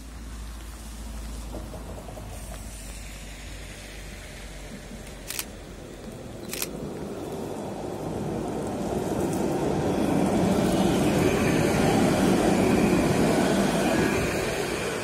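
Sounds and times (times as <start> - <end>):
hiss of a wet street: 0.0 - 15.0
tram running noise: 0.0 - 15.0.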